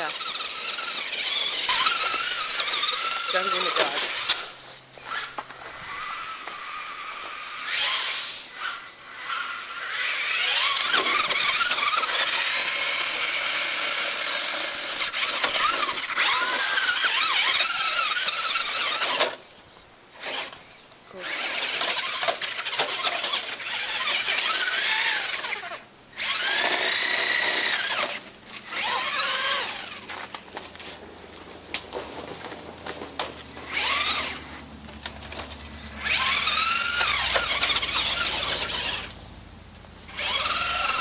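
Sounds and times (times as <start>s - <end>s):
electric motor whining: 0.0s - 41.0s.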